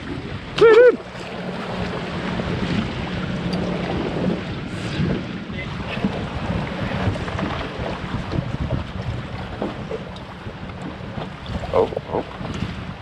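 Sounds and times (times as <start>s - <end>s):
water slapping boat hull: 0.0s - 13.0s
wind on microphone: 0.0s - 13.0s.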